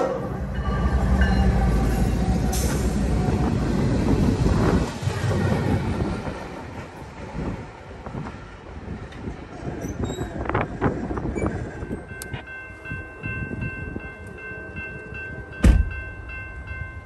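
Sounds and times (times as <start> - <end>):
diesel locomotives rumbling past: 0.0 - 17.0
distant train: 0.0 - 17.0.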